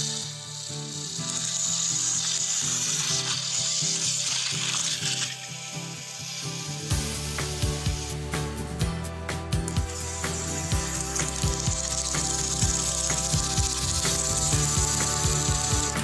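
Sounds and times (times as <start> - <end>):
toy trains running on track: 0.0 - 8.1, 9.6 - 16.0
background music: 0.0 - 16.0.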